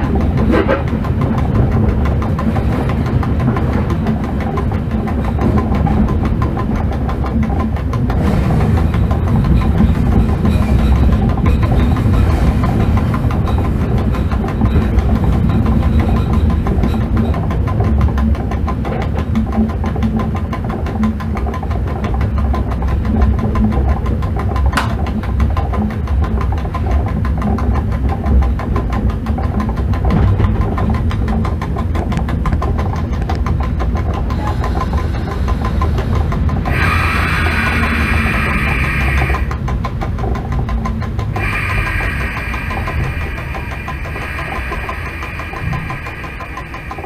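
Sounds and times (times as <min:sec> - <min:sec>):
locomotive rumble: 0:00.0 - 0:47.0.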